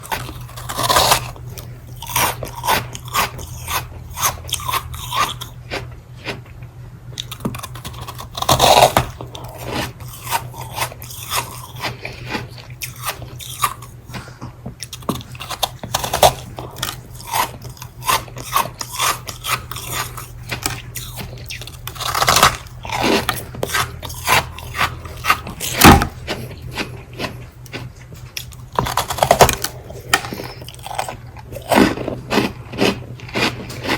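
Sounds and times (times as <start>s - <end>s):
person crunching ice: 0.0s - 6.4s, 7.2s - 14.0s, 14.8s - 33.9s.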